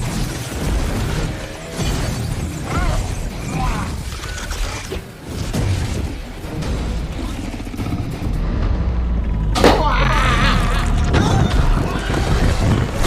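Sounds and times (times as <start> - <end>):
action music: 0.0 - 13.0.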